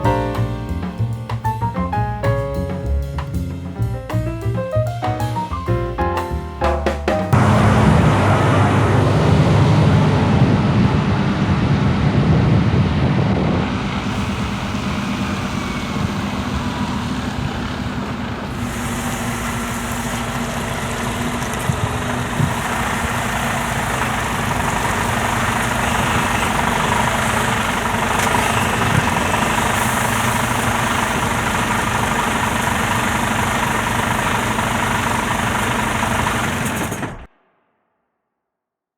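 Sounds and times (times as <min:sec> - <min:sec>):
truck engine running: 0:00.0 - 0:37.3.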